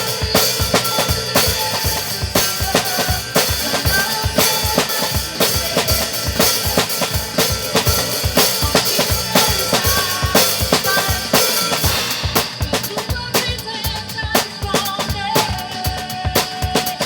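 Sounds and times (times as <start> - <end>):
drum kit playing: 0.0 - 17.0
recorded gospel worship song: 0.0 - 17.0.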